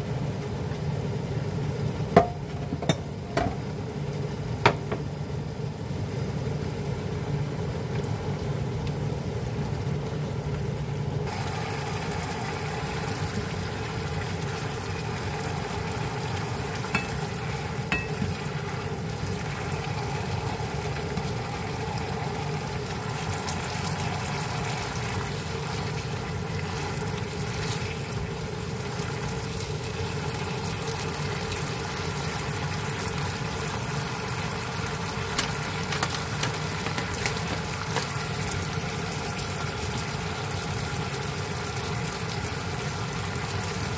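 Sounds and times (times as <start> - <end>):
food sizzling in a frying pan: 0.0 - 43.9.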